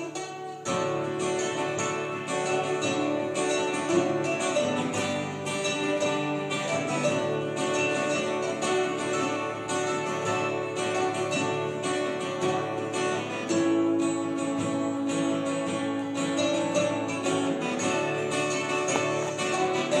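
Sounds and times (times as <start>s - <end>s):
acoustic guitar plucking: 0.0s - 20.0s
mandolin plucking: 0.0s - 20.0s.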